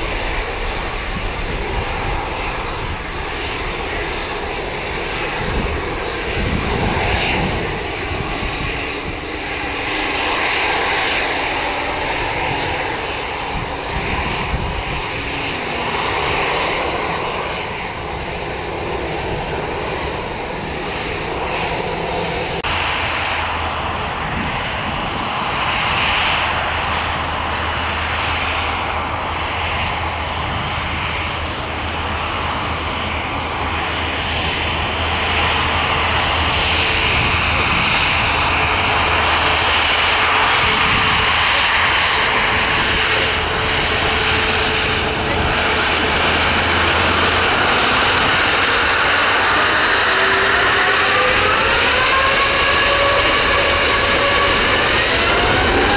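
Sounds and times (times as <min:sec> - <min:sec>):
airliner engines running: 0:00.0 - 0:55.9.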